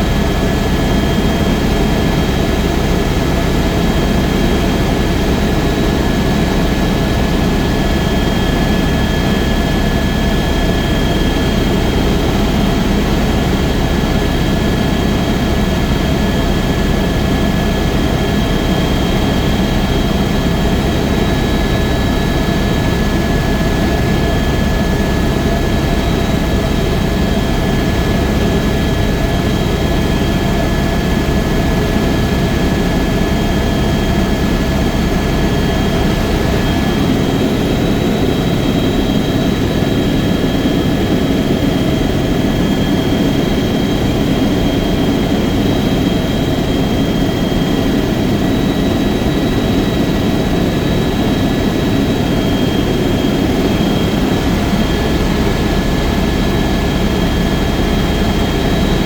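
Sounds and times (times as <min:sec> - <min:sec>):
helicopter rotor rumble: 0:00.0 - 0:59.0
high turbine whine: 0:00.0 - 0:59.0.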